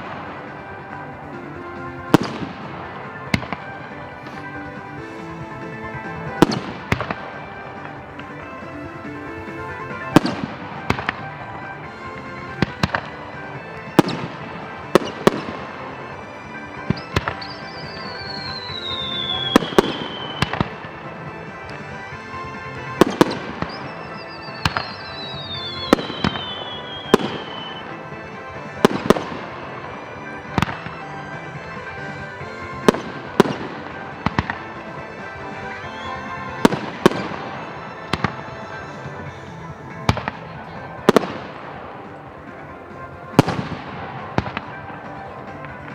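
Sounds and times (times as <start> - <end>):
long falling whistles: 0.0 - 42.2
background music: 0.0 - 45.9
fireworks bursting: 0.0 - 45.9
fireworks crackling: 0.0 - 45.9.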